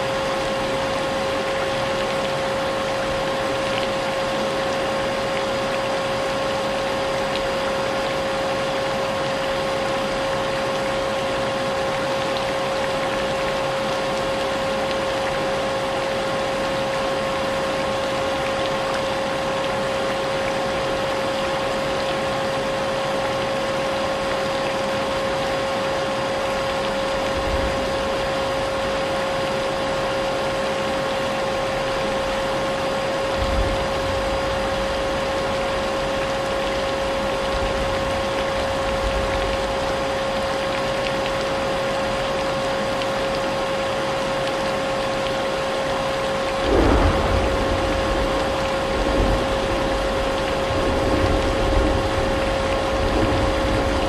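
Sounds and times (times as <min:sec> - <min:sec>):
rain: 0:00.0 - 0:54.0.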